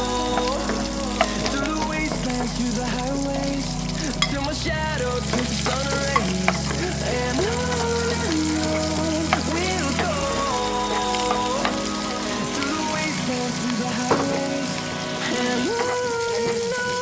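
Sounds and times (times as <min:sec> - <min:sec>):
background music: 0:00.0 - 0:17.0
meat sizzling in a pan: 0:00.0 - 0:17.0.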